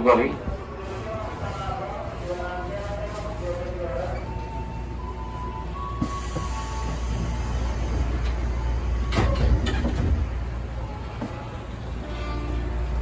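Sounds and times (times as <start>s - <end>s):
electric train interior rumble: 0.0s - 13.0s.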